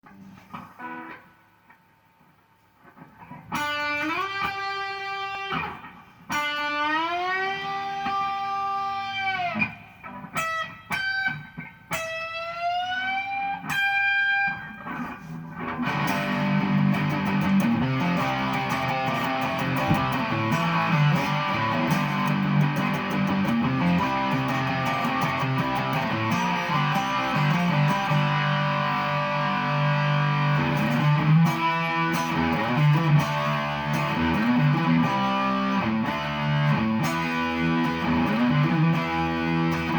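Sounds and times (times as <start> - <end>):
electric guitar playing: 0.0 - 1.4, 2.9 - 39.9.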